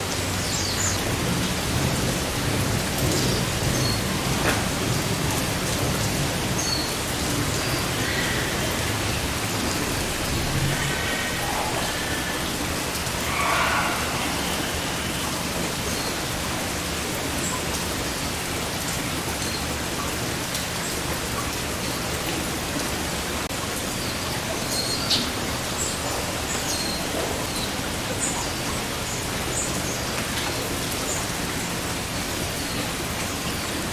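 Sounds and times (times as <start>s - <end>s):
heavy rain hissing: 0.0s - 33.9s.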